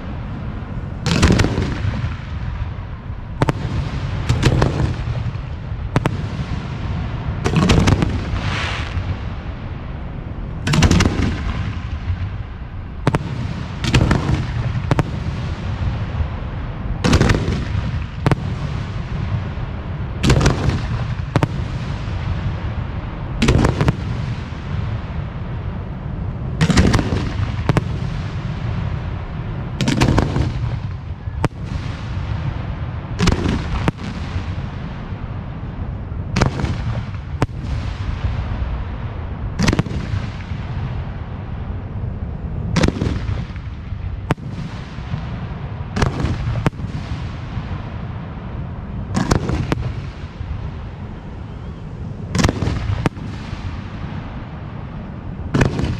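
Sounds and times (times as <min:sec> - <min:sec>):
fireworks bursting with bangs: 0:00.0 - 0:41.7, 0:42.3 - 0:55.9
echoing rumble: 0:00.0 - 0:55.9.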